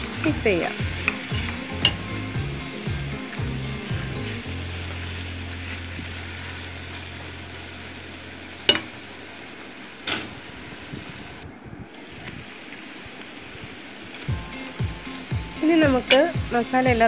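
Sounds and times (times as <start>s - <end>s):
food sizzling while stirred: 0.0s - 11.4s, 12.0s - 17.0s.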